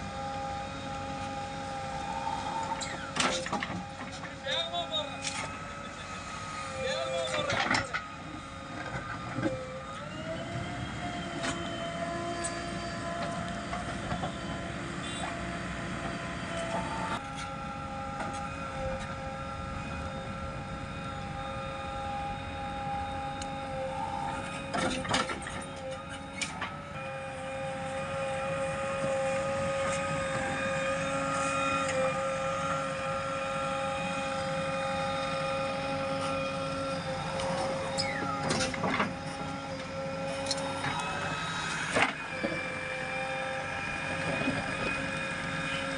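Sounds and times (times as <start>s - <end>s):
backhoe engine and hydraulics whine: 0.0s - 45.9s.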